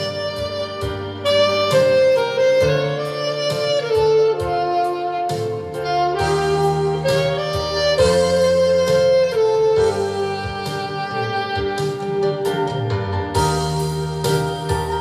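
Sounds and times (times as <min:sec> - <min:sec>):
bass line: 0:00.0 - 0:15.0
drums with cymbal strikes: 0:00.0 - 0:15.0
saxophone melody: 0:00.0 - 0:15.0.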